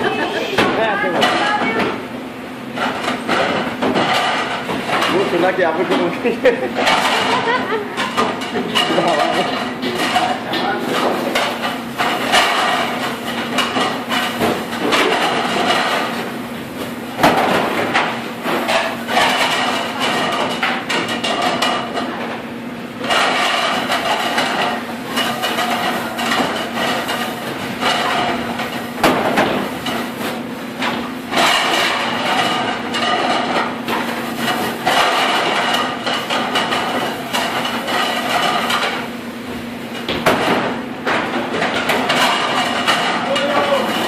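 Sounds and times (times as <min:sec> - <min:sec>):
plates and dishes clattering: 0:00.0 - 0:02.0, 0:02.8 - 0:16.2, 0:17.2 - 0:22.3, 0:23.0 - 0:39.1, 0:40.0 - 0:44.0
steady machine hum: 0:00.0 - 0:44.0.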